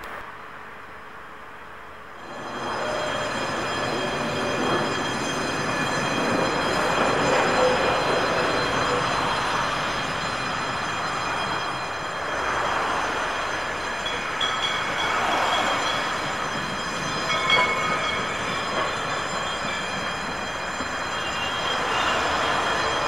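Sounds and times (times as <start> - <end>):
tram crossing road: 0.0 - 23.0
tram wheels squealing on rails: 2.2 - 23.0.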